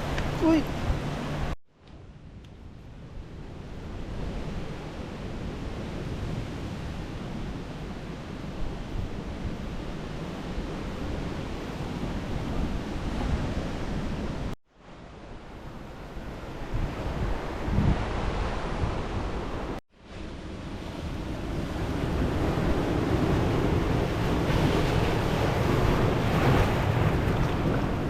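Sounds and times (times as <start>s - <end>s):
ocean surf washing in: 0.0s - 1.6s, 3.1s - 28.0s
wind buffeting microphone: 0.0s - 14.6s, 15.6s - 28.0s.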